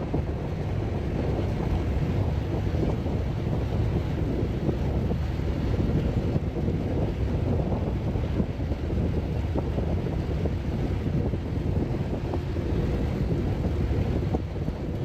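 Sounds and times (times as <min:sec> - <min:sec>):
boat engine noise: 0:00.0 - 0:15.0
wind buffeting microphone: 0:00.0 - 0:15.0.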